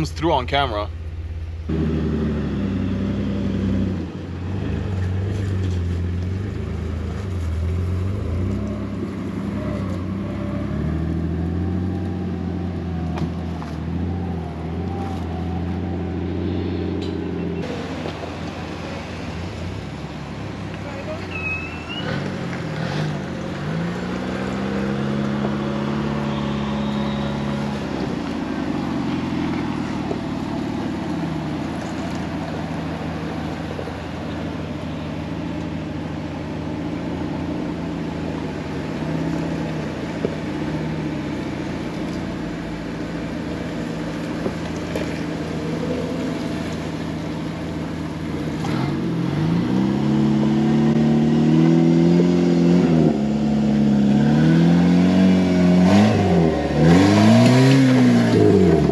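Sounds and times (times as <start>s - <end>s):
car engine driving: 0.0s - 58.9s.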